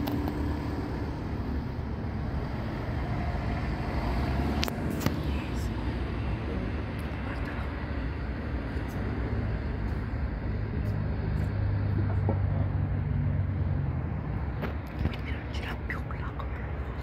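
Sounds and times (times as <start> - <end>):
low engine drone: 0.0 - 17.0
outdoor rumble: 0.0 - 17.0.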